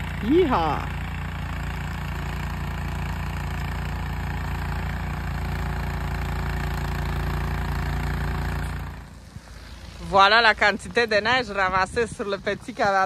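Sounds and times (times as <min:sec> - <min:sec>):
snowblower engine droning: 0:00.0 - 0:13.0.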